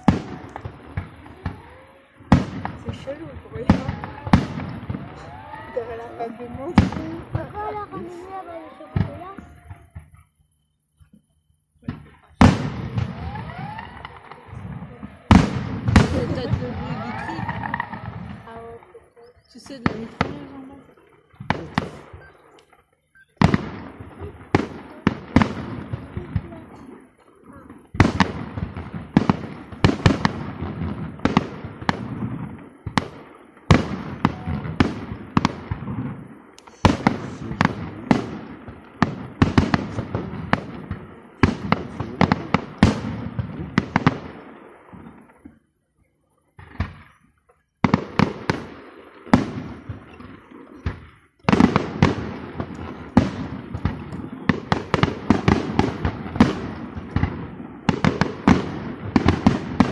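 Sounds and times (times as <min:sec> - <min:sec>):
fireworks bursting: 0:00.0 - 0:45.8, 0:46.5 - 0:59.9
fireworks crackle: 0:00.0 - 0:59.9.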